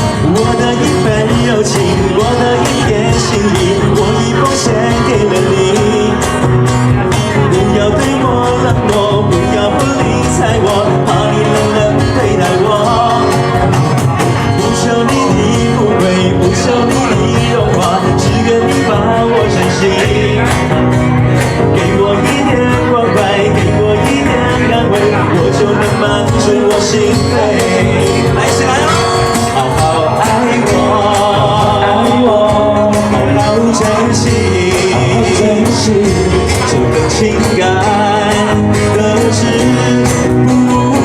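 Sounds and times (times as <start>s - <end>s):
guitar: 0.0s - 41.0s
live band playing pop ballad: 0.0s - 41.0s.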